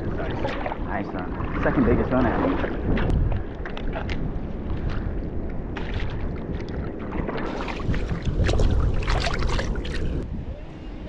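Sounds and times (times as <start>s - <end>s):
feet wading through water: 0.0s - 10.2s
wind buffeting microphone: 0.0s - 11.0s.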